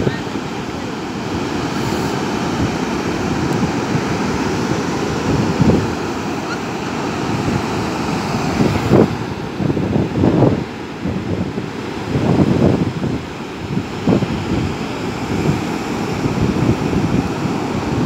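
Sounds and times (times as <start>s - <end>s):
surf breaking on a beach: 0.0s - 18.0s
wind buffeting the microphone: 0.0s - 18.0s.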